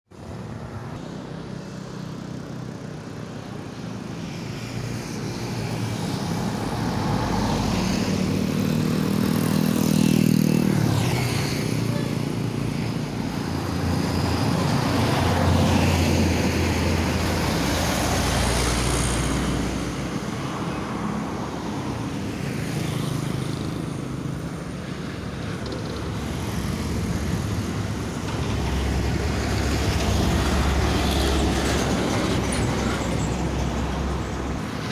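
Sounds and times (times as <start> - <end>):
road traffic passing: 0.1 - 34.9.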